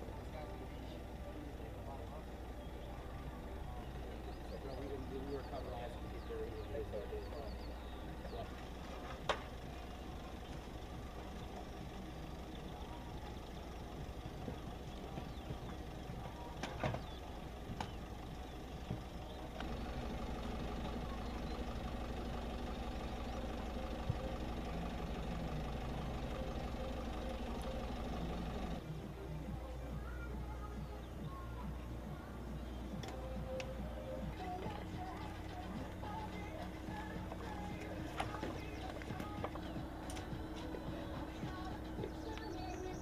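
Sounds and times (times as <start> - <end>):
machine hum: 0.0 - 29.9, 31.6 - 43.0.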